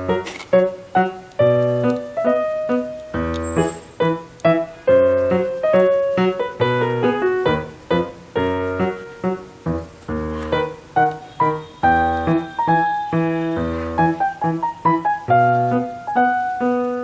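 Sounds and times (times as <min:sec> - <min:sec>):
light keyboard tune: 0:00.0 - 0:17.0.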